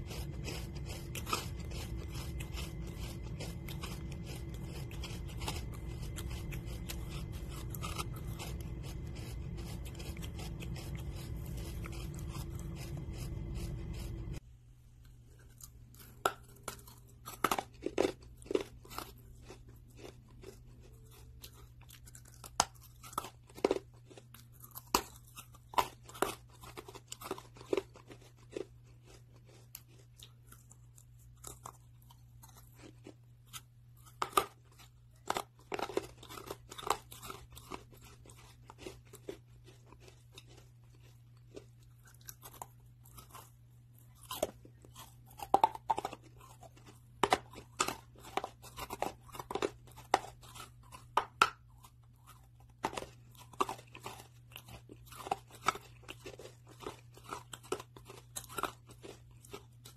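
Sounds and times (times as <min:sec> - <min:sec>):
crunchy chewing: 0:00.0 - 0:14.4, 0:15.0 - 0:59.9
steady low hum: 0:00.0 - 0:59.9.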